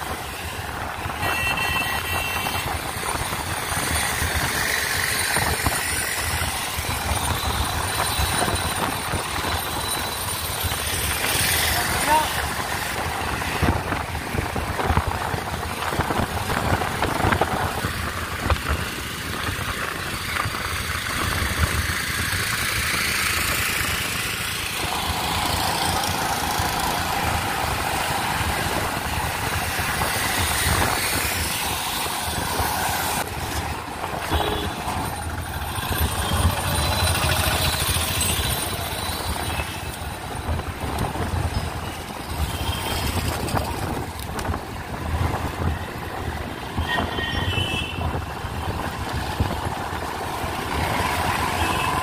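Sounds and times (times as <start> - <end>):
motor traffic: 0.0 - 52.0
wind rumbling on microphone: 0.0 - 52.0.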